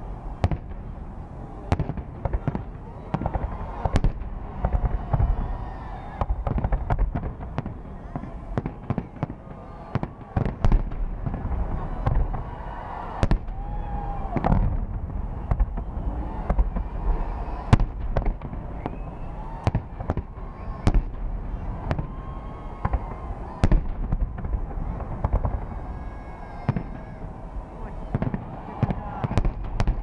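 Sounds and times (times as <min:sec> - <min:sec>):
continuous low rumble: 0:00.0 - 0:30.0
fireworks bangs: 0:00.0 - 0:30.0.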